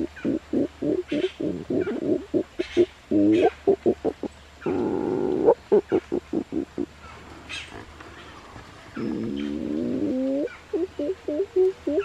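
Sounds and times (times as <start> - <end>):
monkey long wavering call: 0.0 - 6.9, 9.0 - 12.0.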